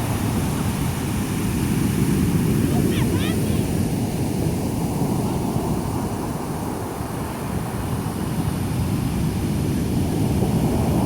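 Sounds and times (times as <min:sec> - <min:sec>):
surf rumbling: 0:00.0 - 0:11.0
wind buffeting microphone: 0:00.0 - 0:11.0.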